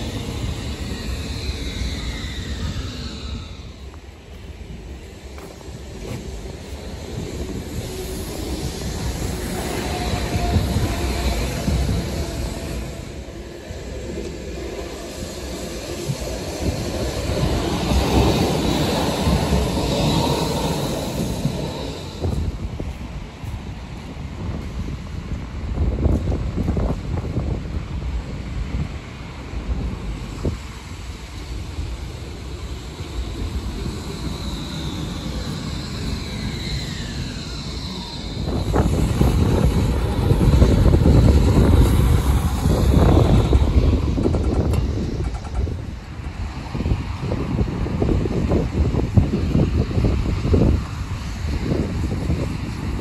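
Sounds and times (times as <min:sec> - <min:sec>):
tram wheels rumbling on rails: 0:00.0 - 0:53.0.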